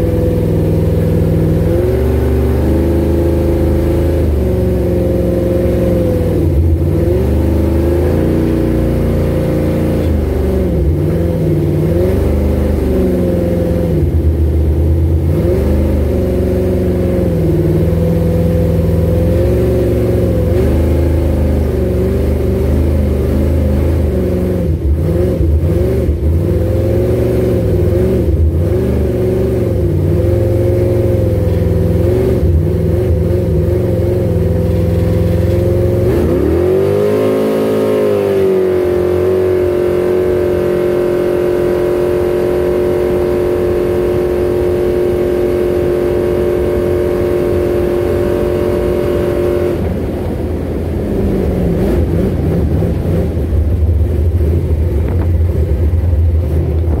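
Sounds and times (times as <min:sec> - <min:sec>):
boat engine revving: 0:00.0 - 0:57.0.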